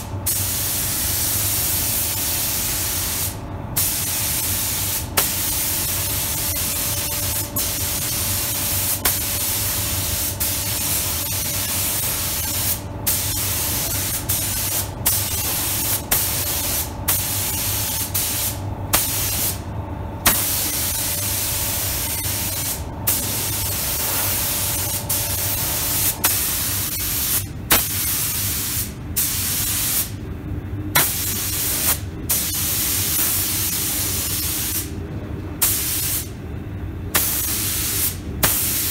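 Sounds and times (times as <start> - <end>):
steady low hum: 0.0 - 38.9
spray gun hissing: 0.3 - 1.4, 2.0 - 19.6, 20.3 - 30.1, 31.0 - 34.9, 35.6 - 36.3, 37.2 - 38.9.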